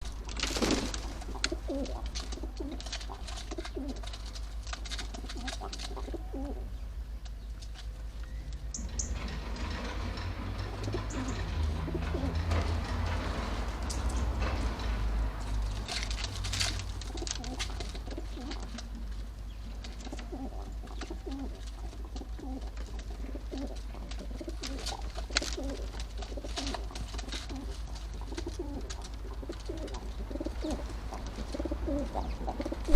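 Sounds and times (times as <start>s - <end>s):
pigeons cooing: 0.0s - 7.0s, 7.8s - 32.9s.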